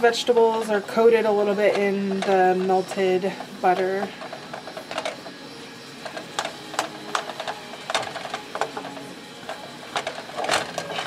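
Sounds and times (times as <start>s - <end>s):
spatula scraping and knocking pan: 0.0s - 11.0s.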